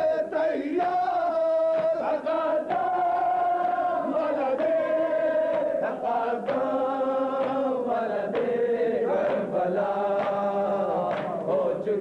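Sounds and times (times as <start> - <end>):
men chanting along: 0.0 - 12.0.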